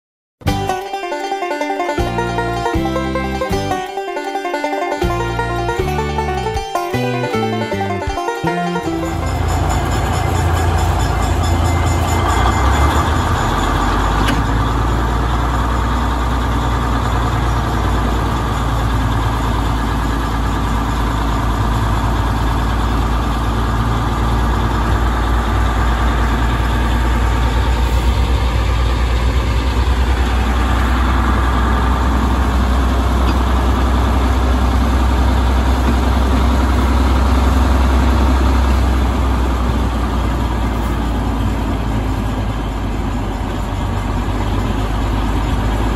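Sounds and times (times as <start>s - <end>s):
diesel locomotive engine rumbling: 0.4s - 45.9s.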